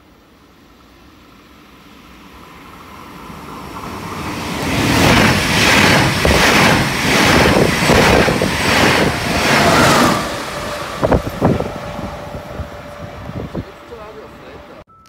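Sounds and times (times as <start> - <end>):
train wheels rushing on rails: 0.0 - 14.8.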